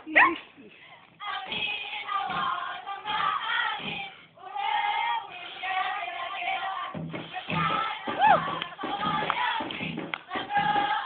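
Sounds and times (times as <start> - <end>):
group chanting in unison: 1.2 - 11.0.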